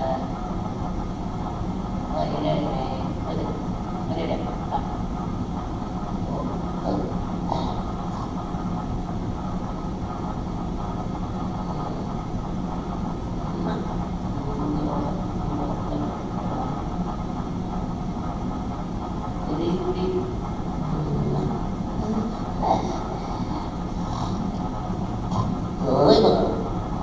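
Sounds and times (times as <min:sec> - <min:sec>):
low rumbling drone: 0:00.0 - 0:27.0.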